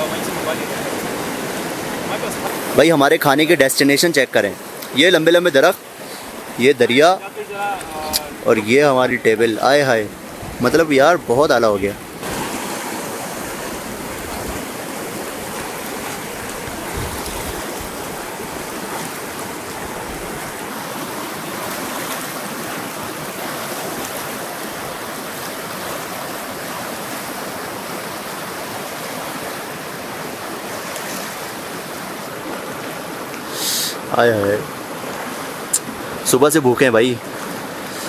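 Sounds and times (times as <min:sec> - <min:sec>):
river water rushing over rapids: 0:00.0 - 0:38.0.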